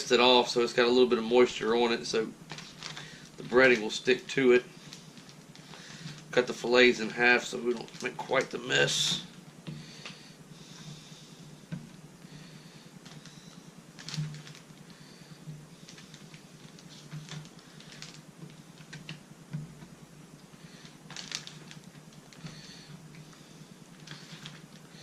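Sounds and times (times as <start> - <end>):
faint rustling: 1.6 - 25.0.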